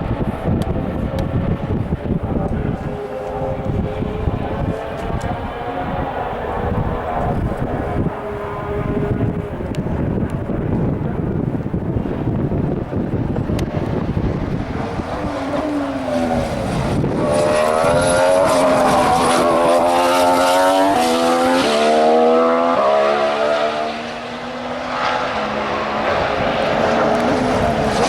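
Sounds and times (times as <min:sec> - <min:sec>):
racing car engine accelerating: 0:00.0 - 0:28.0.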